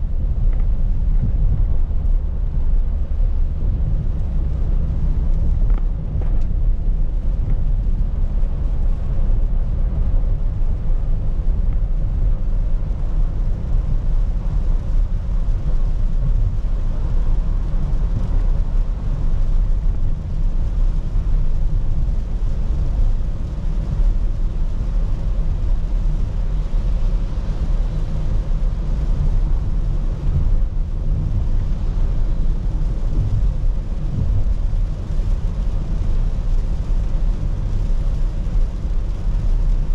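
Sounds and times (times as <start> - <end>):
car driving rumble: 0.0 - 39.9
hiss of rain on wet road: 0.0 - 39.9.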